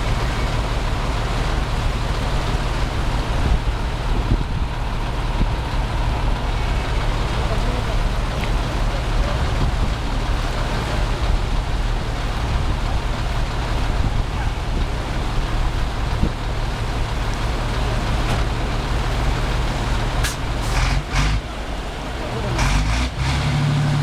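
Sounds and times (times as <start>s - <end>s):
constant rushing noise: 0.0s - 24.0s
vehicle engine running: 0.0s - 24.0s.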